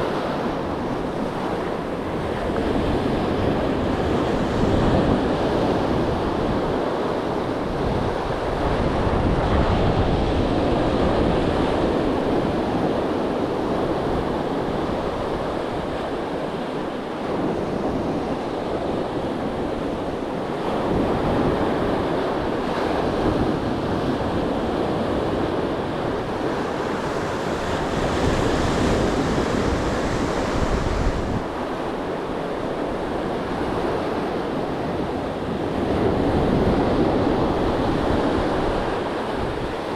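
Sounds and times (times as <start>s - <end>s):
surf washing onto beach: 0.0s - 39.9s
wind buffeting microphone: 0.0s - 39.9s.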